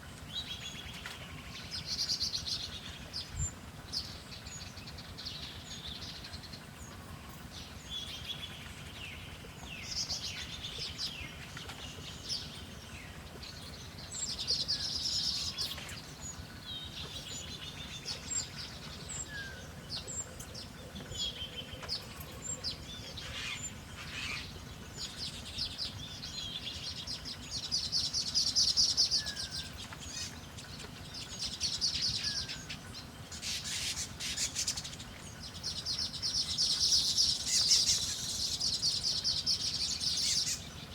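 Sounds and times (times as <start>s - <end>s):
birds chirping: 0.0s - 40.9s
trilled birdsong: 0.0s - 40.9s.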